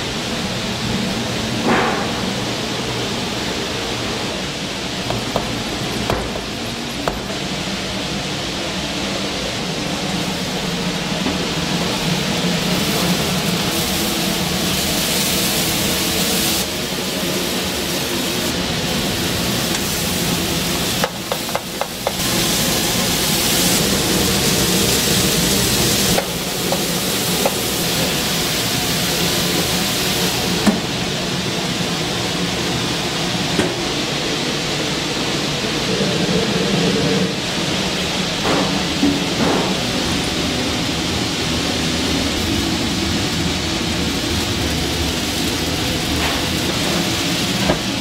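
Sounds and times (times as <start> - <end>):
steady low hum: 0.0 - 48.0
food sizzling: 4.9 - 33.5, 37.3 - 48.0.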